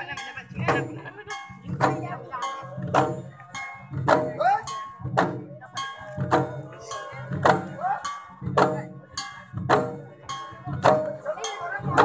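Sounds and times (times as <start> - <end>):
wooden drums beaten by hand: 0.0 - 12.0.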